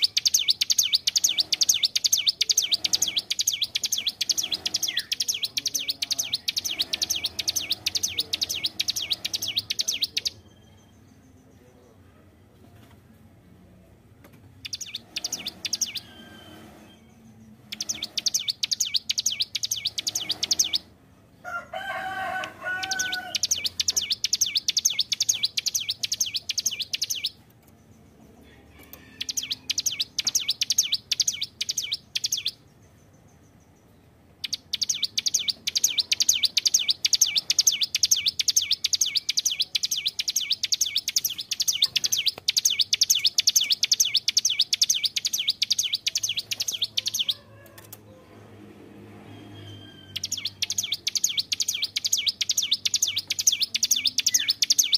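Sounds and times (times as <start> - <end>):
bird singing rapid high notes: 0.0 - 11.4, 14.6 - 21.0, 22.8 - 27.4, 29.1 - 32.7, 34.4 - 47.4, 49.2 - 54.9.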